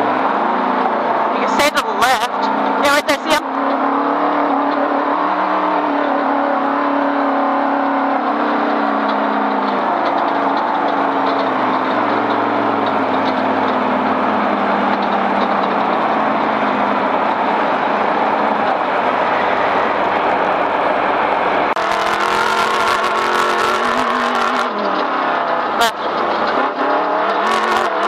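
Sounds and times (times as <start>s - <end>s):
rushing road noise: 0.0s - 28.0s
vehicle engine running: 0.0s - 28.0s.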